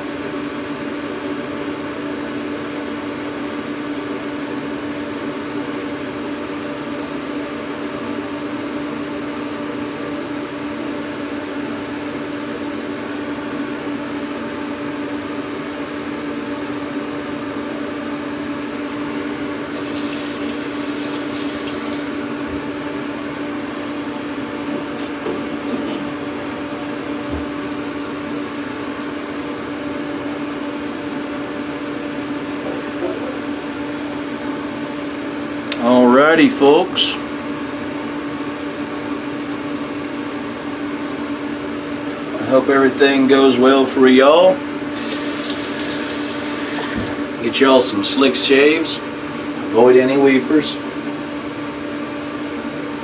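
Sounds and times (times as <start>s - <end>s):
exhaust fan humming: 0.0s - 53.0s.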